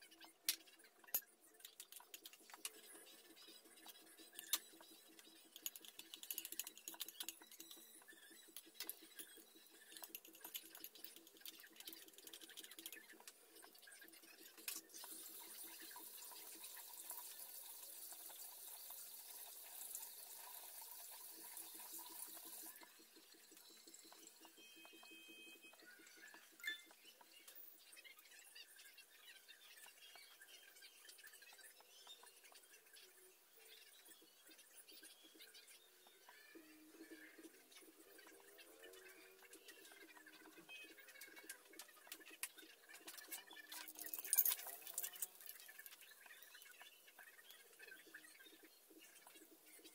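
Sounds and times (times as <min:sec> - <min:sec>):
batter frying with crackles: 0:00.0 - 0:27.8, 0:35.8 - 0:49.9.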